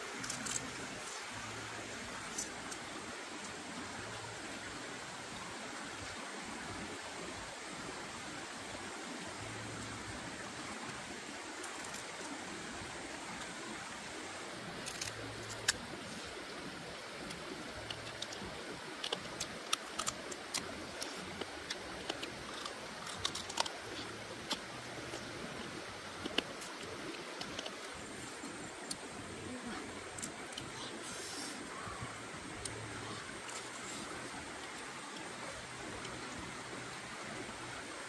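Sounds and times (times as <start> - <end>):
stream rushing: 0.0 - 38.0.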